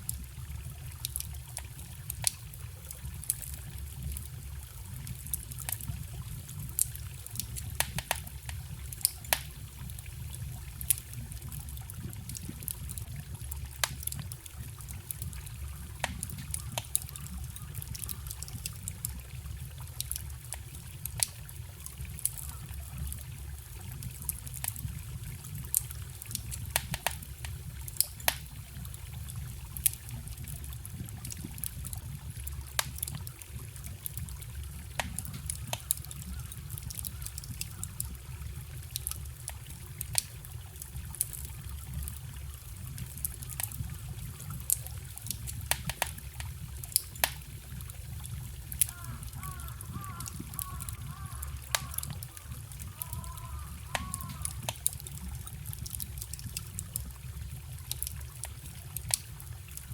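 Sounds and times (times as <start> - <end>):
trickling stream: 0.0 - 59.9
wood fire crackling and popping: 0.0 - 59.9.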